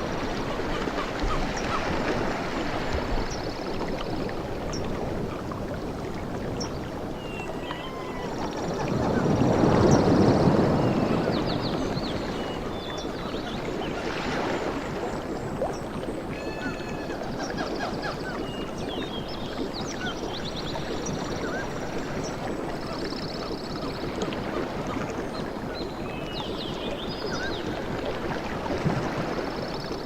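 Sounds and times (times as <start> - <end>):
water washing on beach: 0.0 - 30.0.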